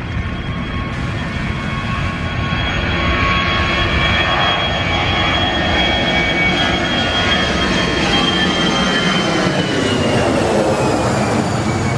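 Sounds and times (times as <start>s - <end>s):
gusting wind: 0.0s - 11.9s
jet airliner passing overhead: 0.0s - 11.9s.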